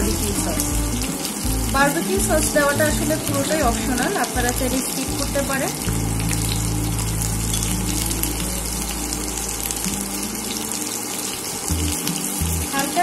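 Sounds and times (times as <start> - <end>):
low hum: 0.0 - 12.7
skewers sizzling in oil: 0.0 - 13.0.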